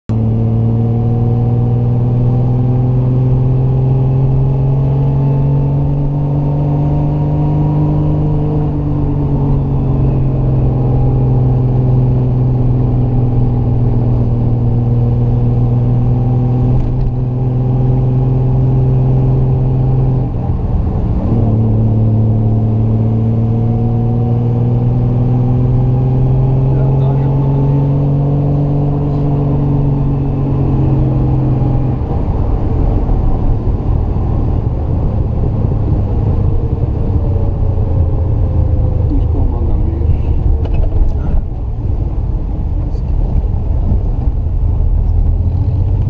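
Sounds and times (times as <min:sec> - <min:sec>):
car engine pulling uphill: 0:00.1 - 0:46.0.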